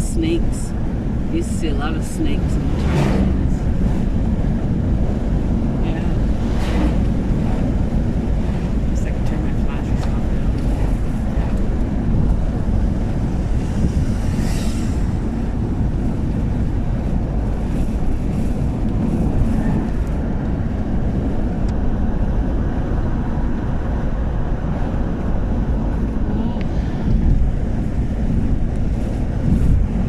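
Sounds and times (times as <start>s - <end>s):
engine and tyre rumble: 0.0s - 30.0s
wind on microphone: 0.0s - 30.0s.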